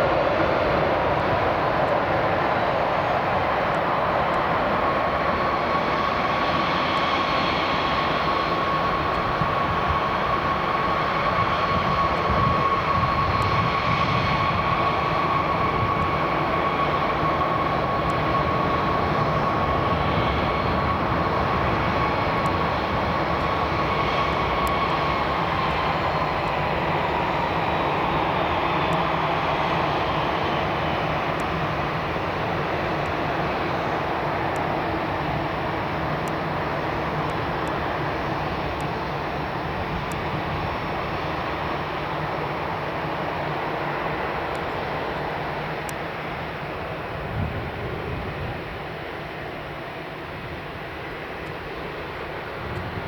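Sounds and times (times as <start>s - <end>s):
high engine whine: 0.0s - 53.0s
jet engines roaring: 0.0s - 53.0s.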